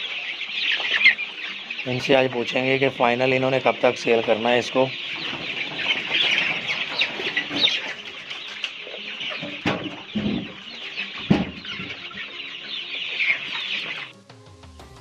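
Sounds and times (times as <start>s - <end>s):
chicks cheeping and clucking: 0.0s - 14.3s.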